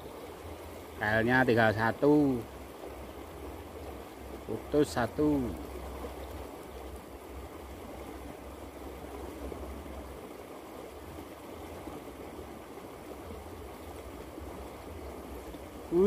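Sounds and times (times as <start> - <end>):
stream rushing over riffle: 0.0 - 16.0.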